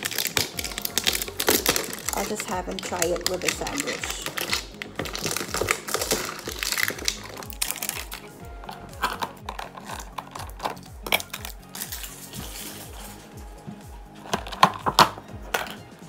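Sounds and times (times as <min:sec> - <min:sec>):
plastic tub and wrapping crackling: 0:00.0 - 0:15.9
background music with steady beat: 0:00.0 - 0:16.0.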